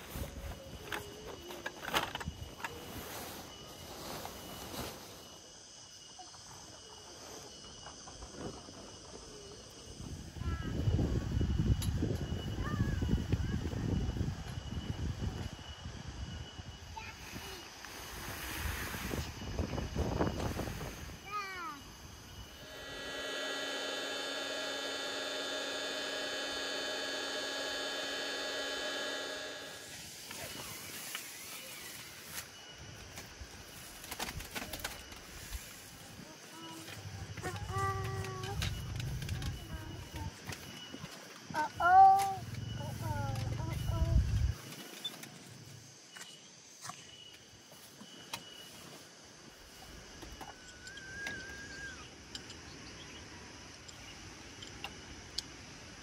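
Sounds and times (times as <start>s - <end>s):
thin high whining tones: 0.0s - 55.4s
faint outdoor hiss: 0.0s - 56.0s
insect chorus: 0.0s - 56.0s.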